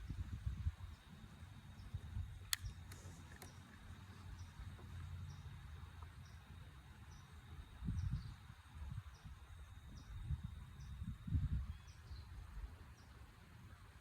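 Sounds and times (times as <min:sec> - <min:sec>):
insect chirping: 0:00.0 - 0:13.9.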